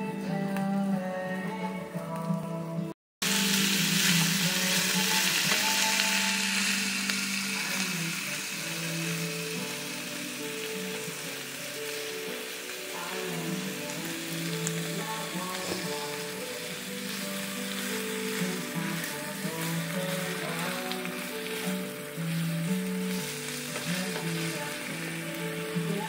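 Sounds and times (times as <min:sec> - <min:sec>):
background music: 0:00.0 - 0:26.0
meat and onions sizzling in oil: 0:03.2 - 0:26.0.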